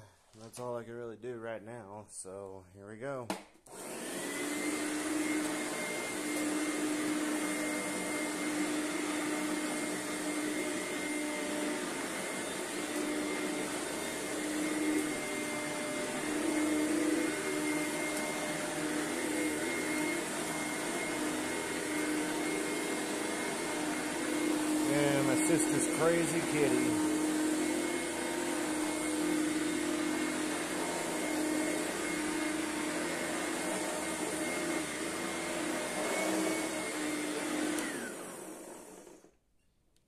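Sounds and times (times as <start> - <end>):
vacuum cleaner running: 3.7 - 39.3.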